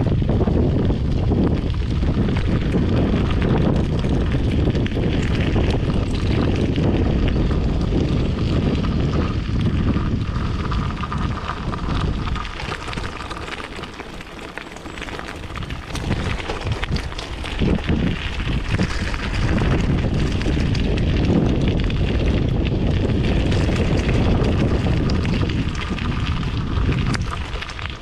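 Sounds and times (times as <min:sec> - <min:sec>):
wind buffeting microphone: 0:00.0 - 0:28.0
bike knocks and rattles: 0:00.8 - 0:28.0
tyres crunching on gravel: 0:01.3 - 0:28.0.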